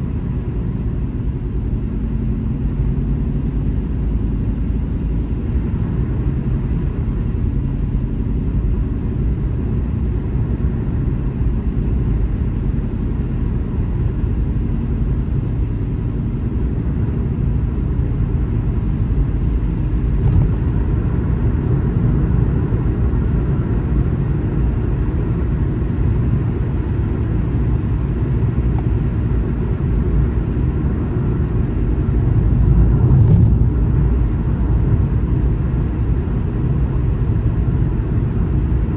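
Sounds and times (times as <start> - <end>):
car driving on a highway: 0.0 - 38.9.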